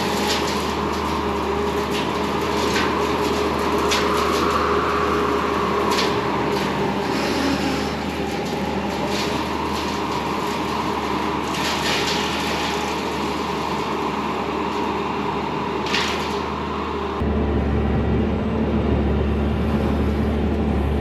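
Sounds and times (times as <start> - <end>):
diesel engine running hard: 0.0 - 21.0.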